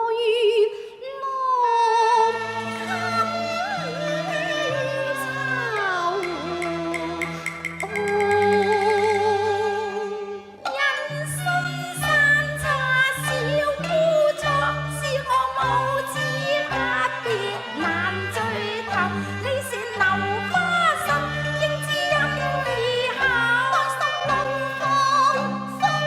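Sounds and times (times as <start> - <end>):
opera music with sliding notes: 0.0 - 26.0.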